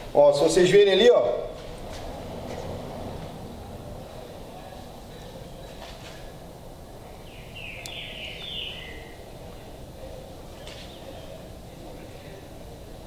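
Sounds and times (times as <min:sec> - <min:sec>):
low workshop background noise: 0:00.0 - 0:13.0.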